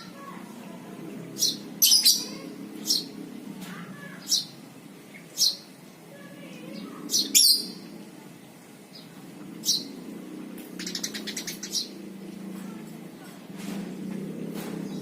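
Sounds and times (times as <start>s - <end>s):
lovebirds chirping and trilling: 0.0s - 15.0s
steady low hum: 0.0s - 15.0s.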